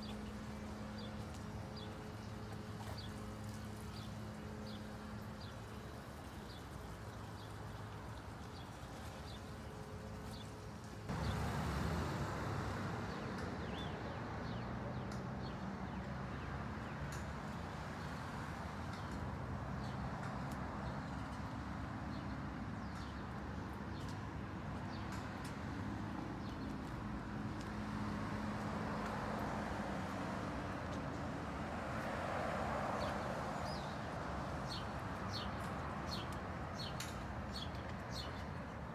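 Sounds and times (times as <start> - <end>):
outdoor background noise: 0.0 - 38.9.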